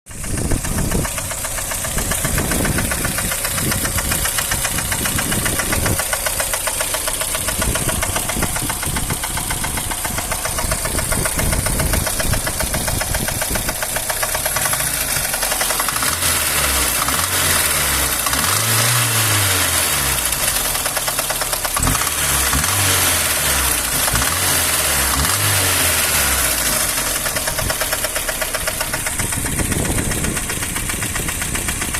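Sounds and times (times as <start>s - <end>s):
car engine knocking: 0.1s - 31.9s.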